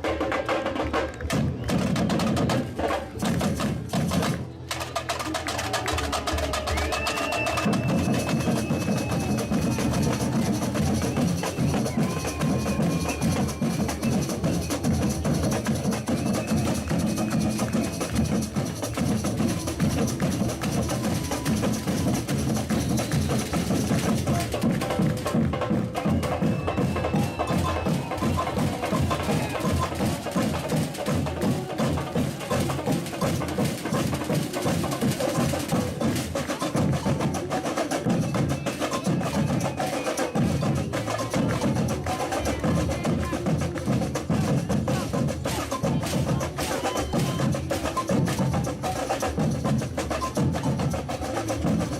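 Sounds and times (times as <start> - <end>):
samba percussion ensemble: 0.0 - 51.9.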